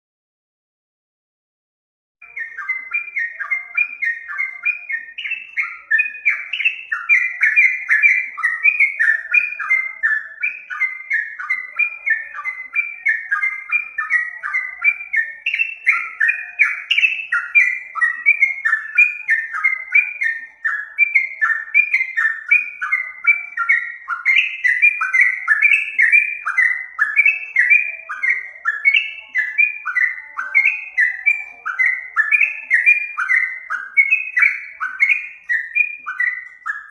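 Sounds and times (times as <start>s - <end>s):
bird singing falling whistled notes: 2.2s - 36.9s.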